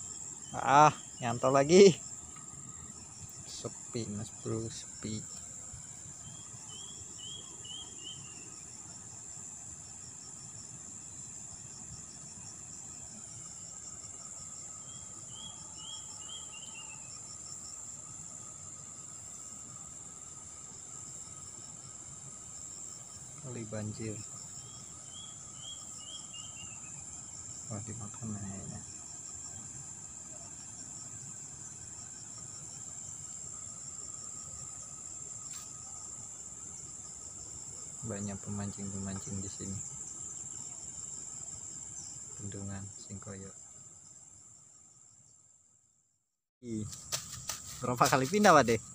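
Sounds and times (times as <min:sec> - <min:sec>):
insects trilling: 0:00.0 - 0:45.7, 0:46.6 - 0:48.9.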